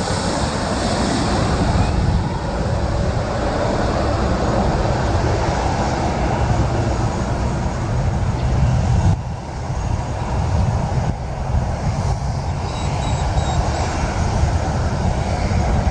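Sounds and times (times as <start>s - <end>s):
aircraft engines rumbling: 0.0s - 15.9s.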